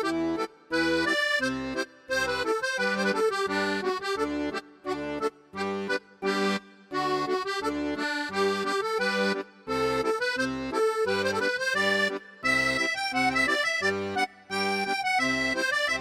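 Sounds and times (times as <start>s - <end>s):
bright instrumental tune: 0.0s - 16.0s.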